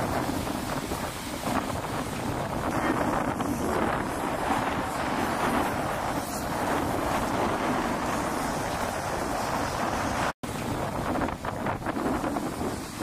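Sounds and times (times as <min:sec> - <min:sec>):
surf breaking: 0:00.0 - 0:13.0
wind buffeting microphone: 0:00.0 - 0:13.0.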